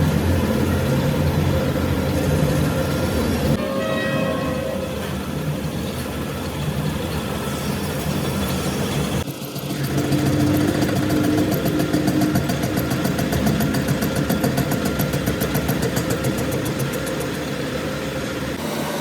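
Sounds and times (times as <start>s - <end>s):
workshop machine running: 0.0s - 19.0s.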